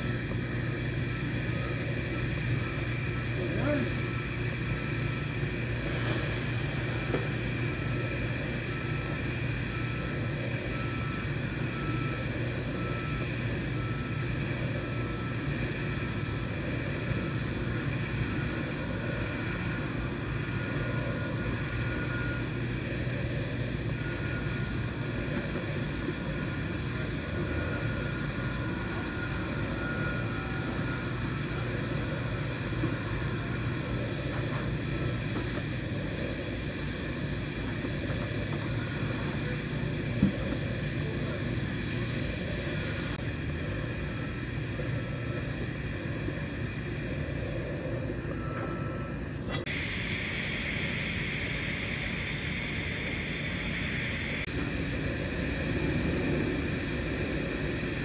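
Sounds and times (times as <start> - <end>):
welding arc hum and hiss: 0.0 - 58.0.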